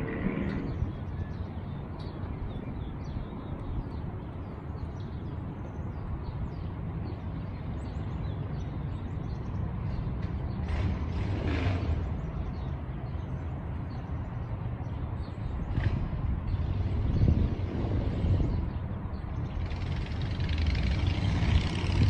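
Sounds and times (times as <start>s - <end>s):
small birds chirping: 0.0s - 11.3s, 11.9s - 22.0s.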